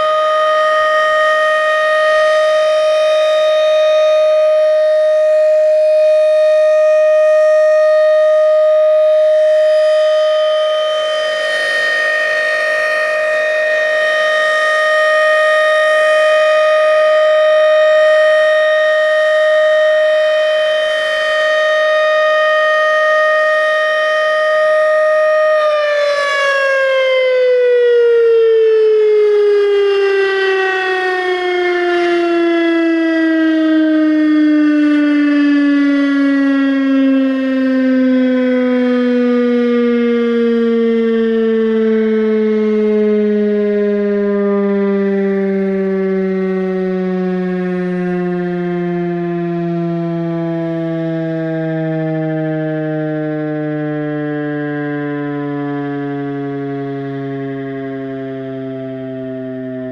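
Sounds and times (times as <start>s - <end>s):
warning siren steady tone: 0.0s - 59.9s.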